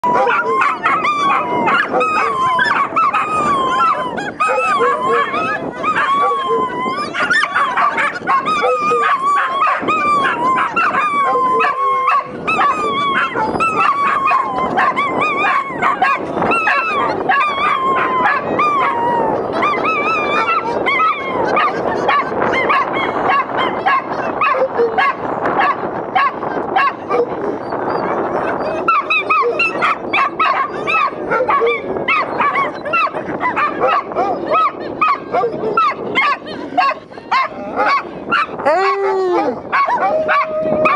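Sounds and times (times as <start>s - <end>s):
dogs howling: 0.0s - 40.9s.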